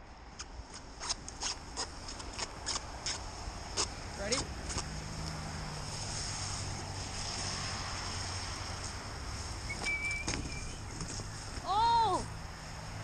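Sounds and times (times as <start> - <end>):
road traffic rumble: 0.0 - 13.0
wind: 0.0 - 13.0.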